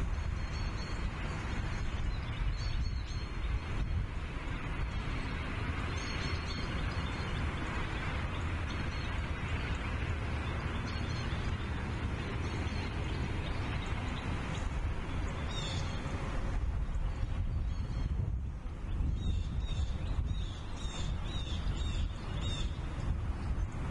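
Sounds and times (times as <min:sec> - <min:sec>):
wind rumble on microphone: 0:00.0 - 0:23.9.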